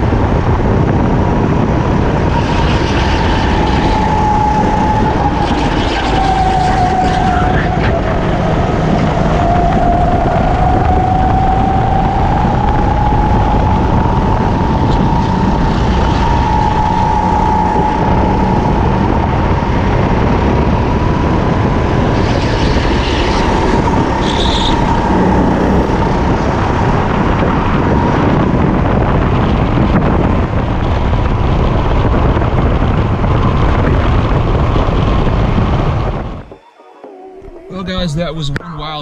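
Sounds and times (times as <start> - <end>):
kart engine running at speed: 0.0 - 36.7
wind rushing over microphone: 0.0 - 39.0.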